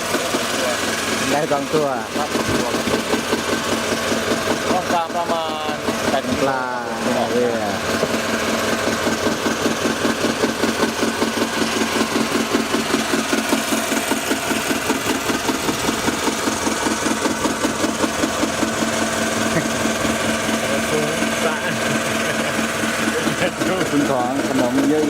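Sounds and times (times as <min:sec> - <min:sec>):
boat engine throbbing: 0:00.0 - 0:25.0.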